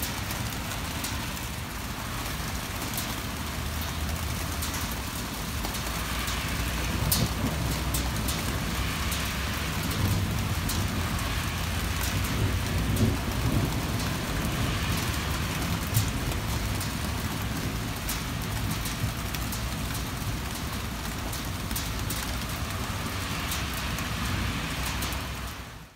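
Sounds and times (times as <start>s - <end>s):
heavy rain hissing: 0.0s - 25.9s
raindrops clicking close by: 0.0s - 25.9s.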